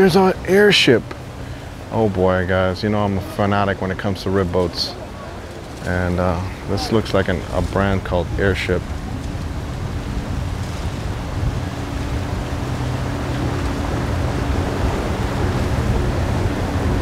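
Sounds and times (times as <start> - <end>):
boat motor humming: 0.0 - 17.0
water wash: 0.0 - 17.0
wind rumbling on microphone: 0.0 - 17.0.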